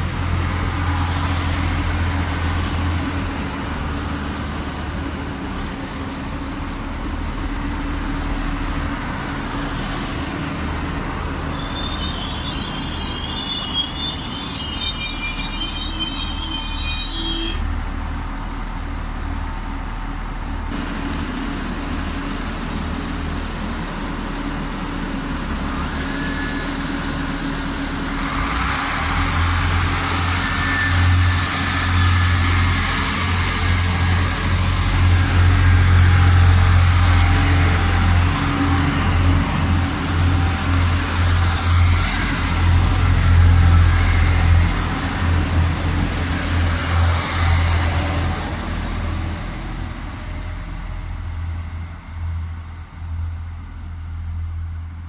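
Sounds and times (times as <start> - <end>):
train diesel engine drone: 0.0 - 55.0.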